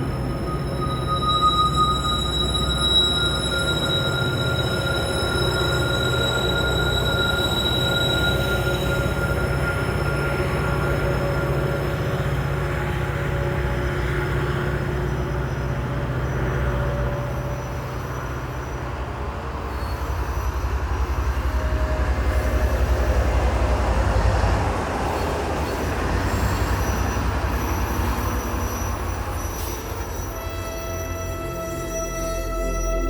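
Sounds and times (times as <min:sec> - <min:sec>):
train passing: 0:00.0 - 0:33.0.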